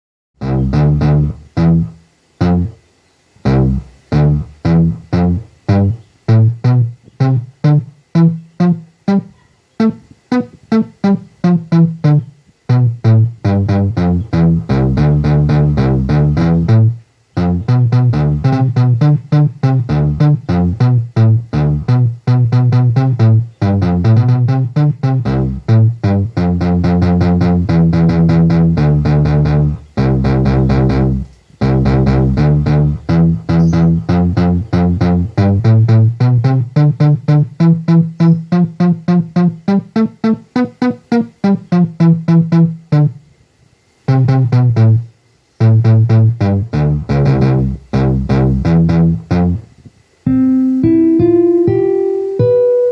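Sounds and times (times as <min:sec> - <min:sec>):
bass-heavy electronic music: 0:00.4 - 0:02.8, 0:03.5 - 0:40.1, 0:44.1 - 0:49.7.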